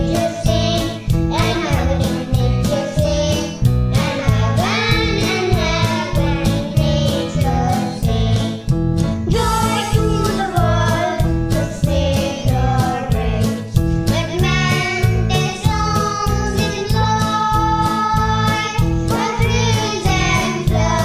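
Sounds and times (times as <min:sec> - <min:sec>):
children singing: 0:00.0 - 0:08.7, 0:09.3 - 0:21.0
backing track with beat: 0:00.0 - 0:21.0.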